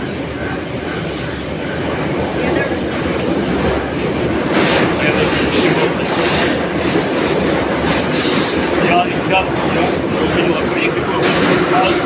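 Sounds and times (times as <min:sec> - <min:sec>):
metro train wheels rumbling on rail: 0:00.0 - 0:12.0.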